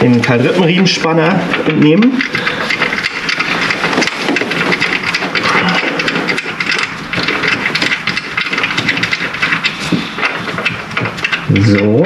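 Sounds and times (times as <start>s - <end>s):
wrench clicking and scraping: 1.5s - 12.0s.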